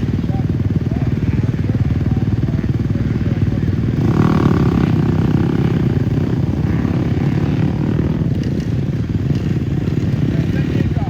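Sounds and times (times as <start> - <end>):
dirt bike engine droning: 0.0 - 11.0.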